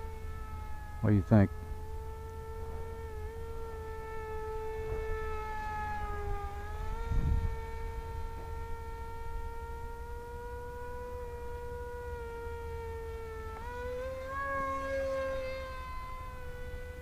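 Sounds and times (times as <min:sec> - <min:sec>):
electric motor and propeller buzzing: 0:00.0 - 0:17.0.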